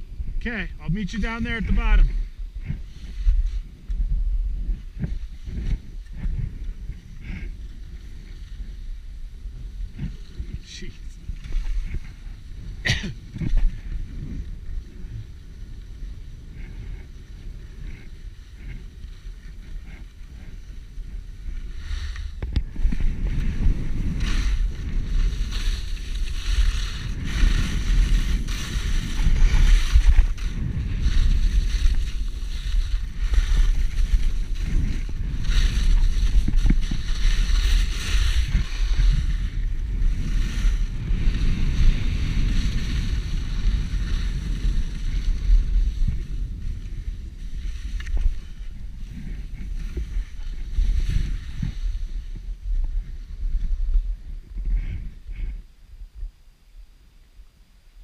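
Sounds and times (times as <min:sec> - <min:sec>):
wind rushing over microphone: 0:00.0 - 0:56.9
skis scraping packed snow: 0:00.2 - 0:55.6.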